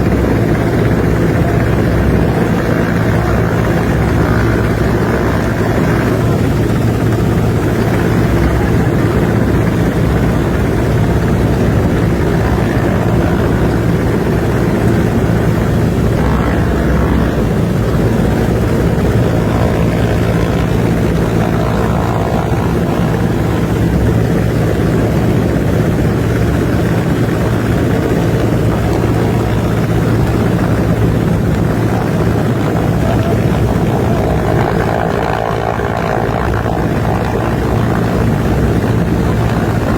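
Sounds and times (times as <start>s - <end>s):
loud engine drone: 0.0s - 39.9s.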